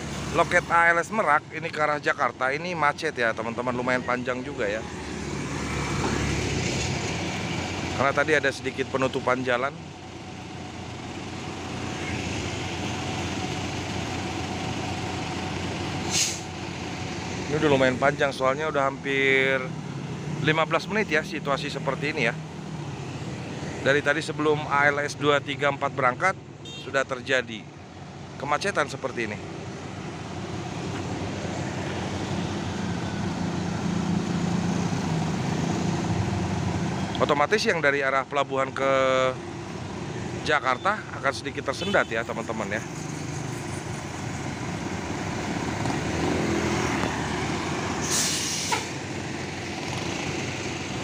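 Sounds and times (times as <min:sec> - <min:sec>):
bus and motorcycle engines: 0:00.0 - 0:51.0
road noise: 0:00.0 - 0:51.0
heavy trucks idling: 0:03.4 - 0:24.6, 0:27.7 - 0:37.8, 0:38.6 - 0:51.0.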